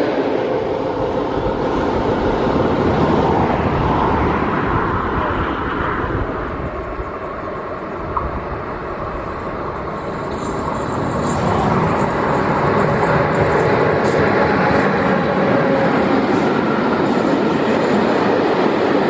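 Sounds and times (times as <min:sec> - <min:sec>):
freight train rumble and rail noise: 0:00.0 - 0:19.0.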